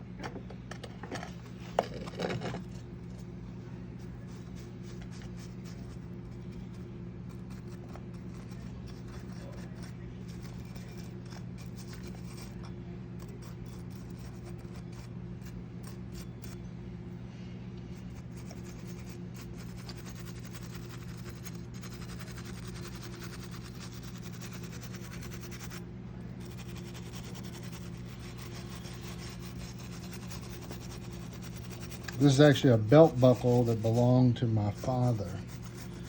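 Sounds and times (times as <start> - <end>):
steady low hum: 0.0 - 36.0
light scratching and rubbing: 4.0 - 16.6, 18.0 - 25.8, 26.4 - 36.0.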